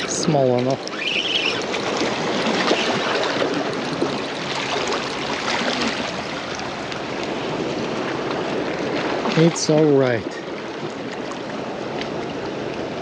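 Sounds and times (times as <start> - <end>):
small waves splashing on rocks: 0.0 - 11.4.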